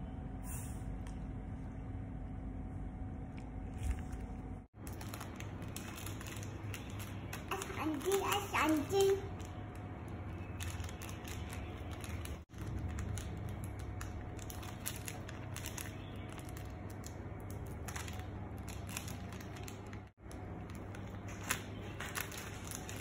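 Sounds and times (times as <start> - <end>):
steady low hum: 0.0 - 23.0
plastic wrapper crinkling: 3.8 - 23.0.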